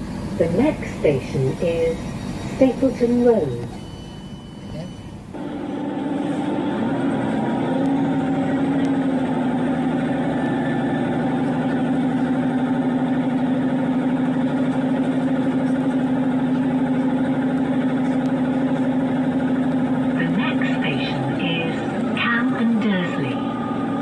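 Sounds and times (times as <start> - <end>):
train diesel engine droning: 0.0 - 24.0.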